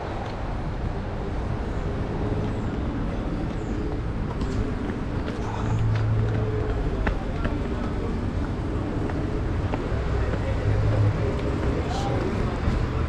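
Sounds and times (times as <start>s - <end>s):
traffic: 0.0s - 13.0s
vehicle engine rumble: 0.0s - 13.0s.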